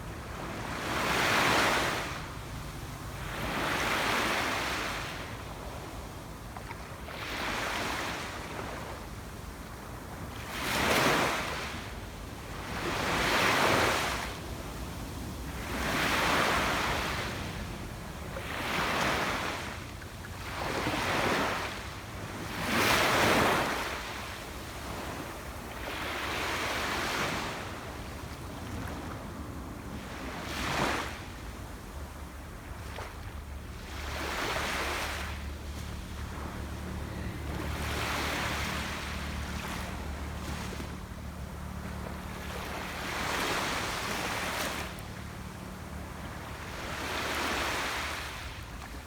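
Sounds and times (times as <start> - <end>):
sea waves breaking on beach: 9.6 - 49.0.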